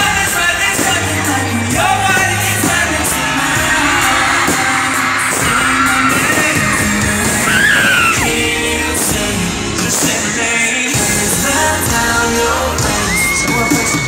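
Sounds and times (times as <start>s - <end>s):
live pop music with male singer: 0.0s - 14.0s.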